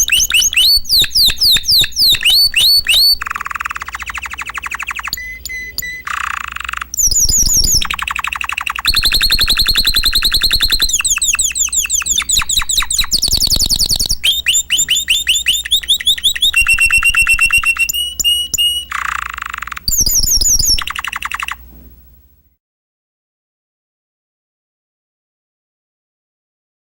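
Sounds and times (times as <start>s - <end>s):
canary singing trills: 0.0s - 21.7s.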